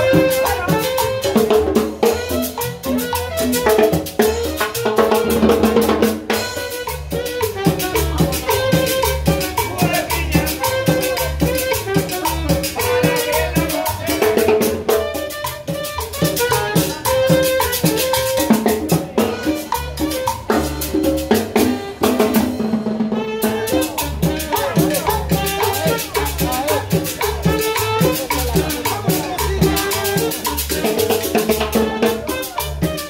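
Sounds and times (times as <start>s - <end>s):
congas and timbales drumming: 0.0s - 33.0s
held melody notes: 0.0s - 33.0s
upright bass: 0.0s - 33.0s.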